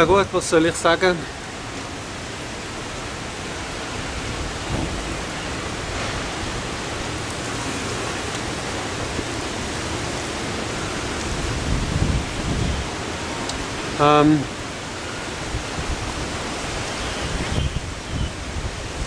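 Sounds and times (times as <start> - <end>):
heavy rain hiss: 0.0 - 19.0
wind rumbling on microphone: 1.3 - 19.0.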